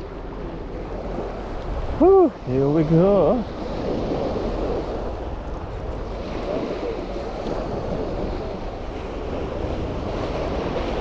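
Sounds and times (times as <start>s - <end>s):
small waves breaking on sand: 0.0s - 11.0s
wind on microphone: 0.0s - 11.0s.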